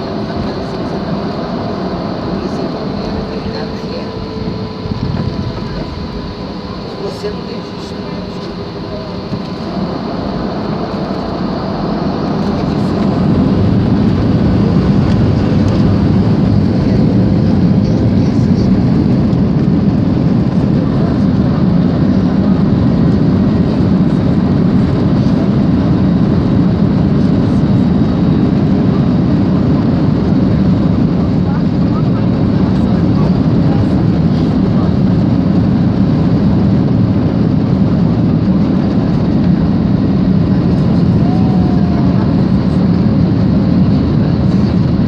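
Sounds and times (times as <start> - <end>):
jet engines spooling up: 0.0 - 45.0.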